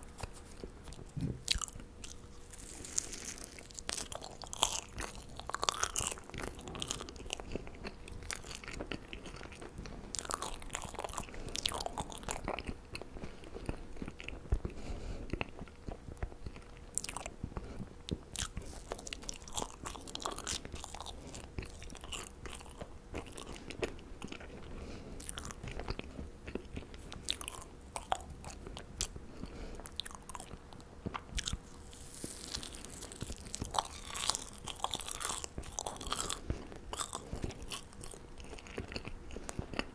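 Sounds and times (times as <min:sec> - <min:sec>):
marshmallows bitten and chewed: 0:00.2 - 0:39.9.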